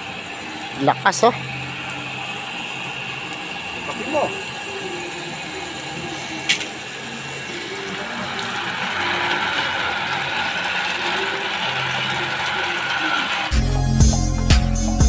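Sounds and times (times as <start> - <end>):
water spraying from hose: 0.0 - 13.6
water pump running: 0.0 - 15.0.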